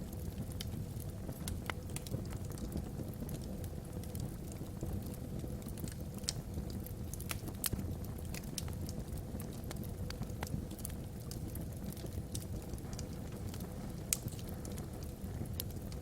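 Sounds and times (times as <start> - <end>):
log fire crackling and popping: 0.0 - 16.0
low rumble of burning: 0.0 - 16.0
wind across chimney: 0.0 - 16.0.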